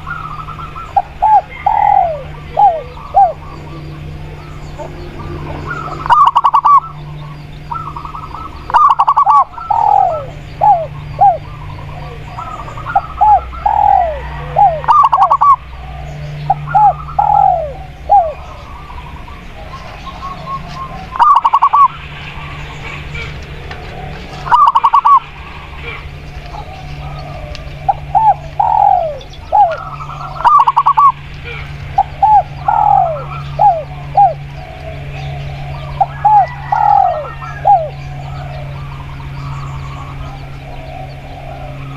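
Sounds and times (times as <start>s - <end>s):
doves cooing: 0.0s - 41.9s
low hum: 0.0s - 41.9s.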